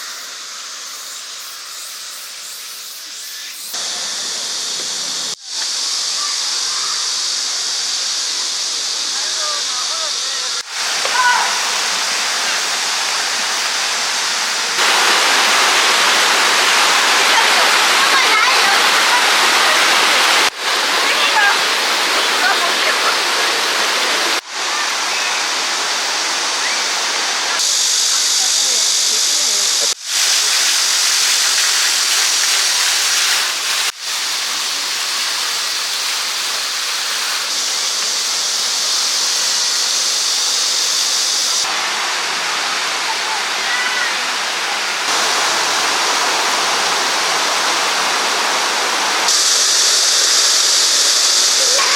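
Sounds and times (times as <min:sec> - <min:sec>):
stream rushing over rocks: 0:03.8 - 0:06.6, 0:08.2 - 0:51.9.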